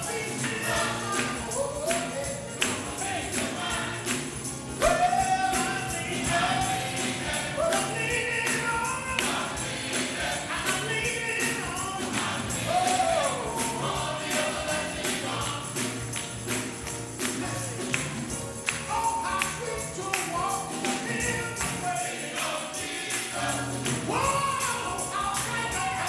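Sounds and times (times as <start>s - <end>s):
gospel choir singing with band: 0.0s - 26.0s
steady percussion beat: 0.0s - 26.0s.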